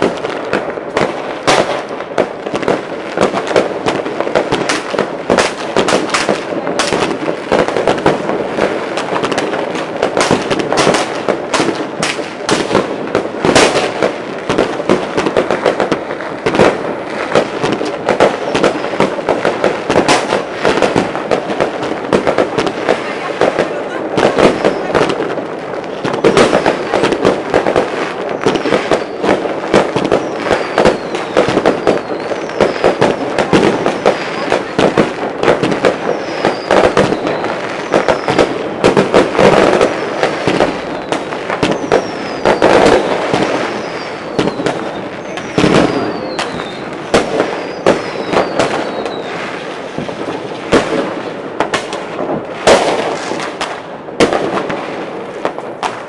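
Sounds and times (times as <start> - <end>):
fireworks bangs and pops: 0.0 - 56.0
whistling fireworks: 0.0 - 56.0.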